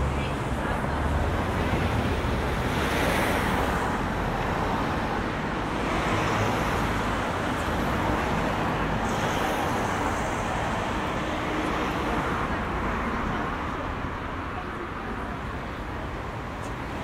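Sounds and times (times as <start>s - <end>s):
cars passing on a street: 0.0s - 17.0s.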